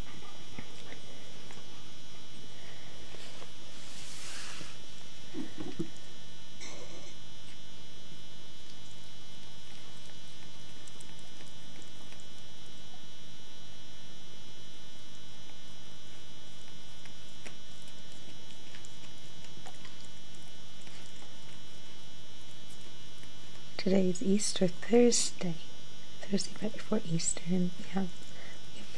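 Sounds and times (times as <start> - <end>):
electrical hum: 0.0 - 28.9.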